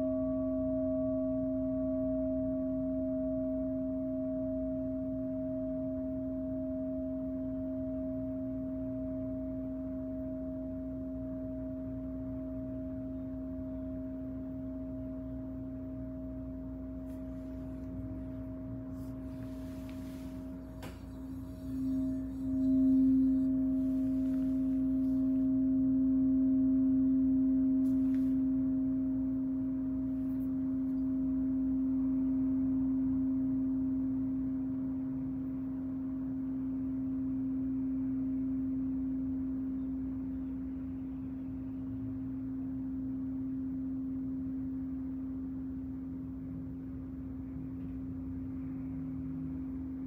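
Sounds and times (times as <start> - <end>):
singing bowl ringing: 0.0 - 50.0.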